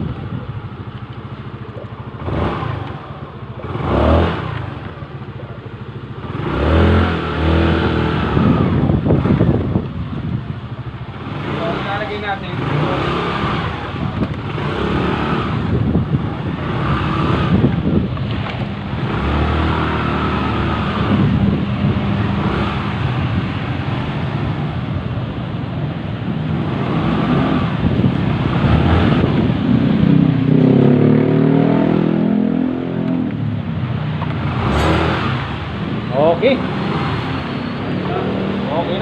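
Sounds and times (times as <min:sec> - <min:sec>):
scooter engine revving: 0:00.0 - 0:39.0.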